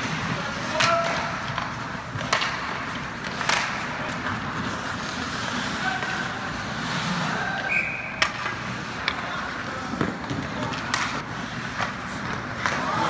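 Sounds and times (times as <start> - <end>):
hockey stick hitting puck: 0.0 - 6.4, 8.0 - 13.0
skates scraping on ice: 0.0 - 13.0.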